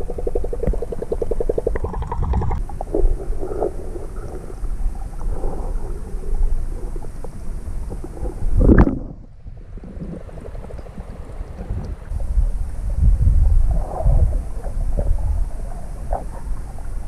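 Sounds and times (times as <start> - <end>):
muffled underwater water sloshing: 0.0 - 17.0
water swishes: 0.0 - 17.0.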